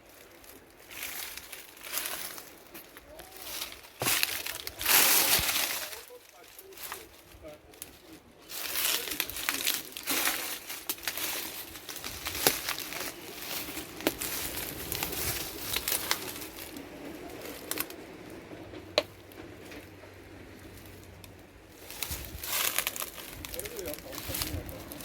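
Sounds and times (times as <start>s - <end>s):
litter crinkling and snapping: 0.0s - 25.0s.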